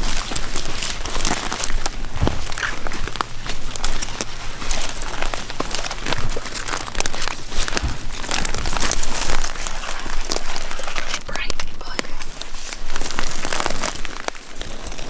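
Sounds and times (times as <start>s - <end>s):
footsteps through dry brush: 0.0s - 15.0s.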